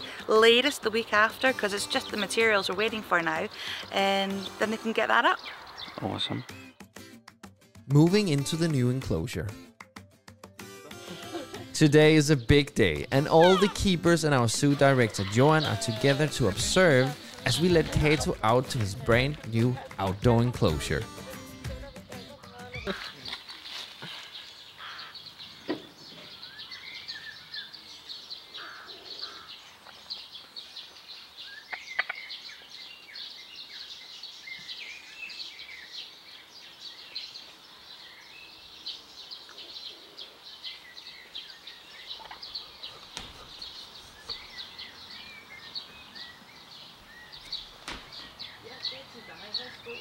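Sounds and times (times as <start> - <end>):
small birds chirping: 0.0 - 7.1, 10.9 - 50.0.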